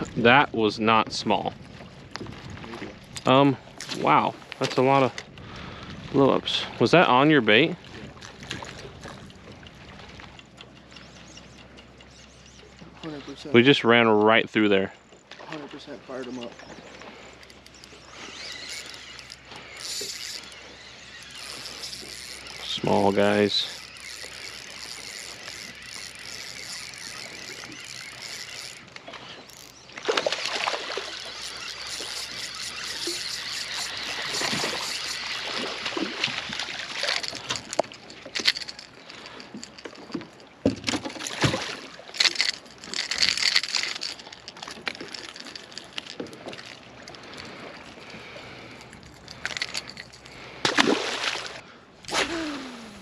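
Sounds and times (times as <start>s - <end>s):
water lapping against boat hull: 0.0s - 53.0s.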